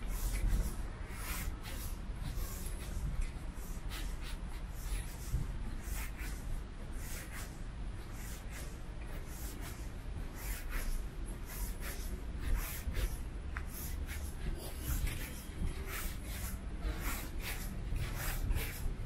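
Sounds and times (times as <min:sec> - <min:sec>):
low city rumble: 0:00.0 - 0:19.0.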